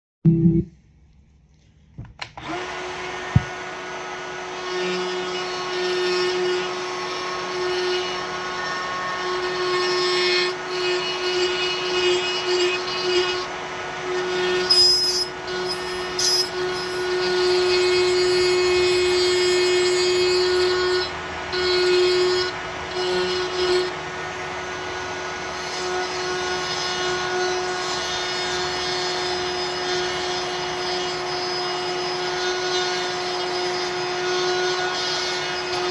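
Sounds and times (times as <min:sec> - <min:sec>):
electric grinder running: 0:02.4 - 0:35.9.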